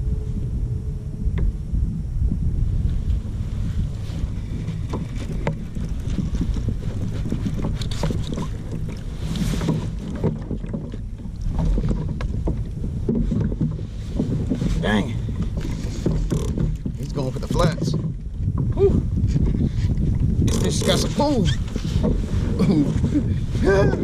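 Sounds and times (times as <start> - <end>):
wind buffeting microphone: 0.0 - 24.0
gear knocking on kayak hull: 3.7 - 24.0.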